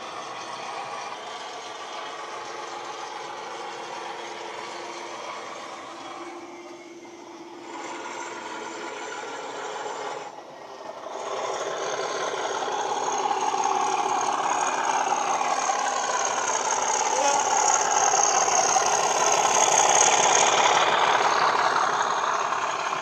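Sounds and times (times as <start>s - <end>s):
diesel engine sound from speaker: 0.0s - 23.0s.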